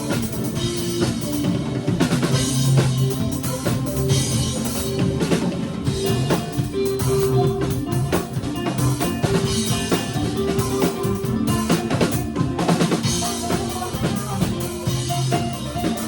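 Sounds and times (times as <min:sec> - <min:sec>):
bass guitar: 0:00.0 - 0:16.0
drum kit: 0:00.0 - 0:16.0
guitar: 0:00.0 - 0:16.0
keyboard: 0:00.0 - 0:16.0.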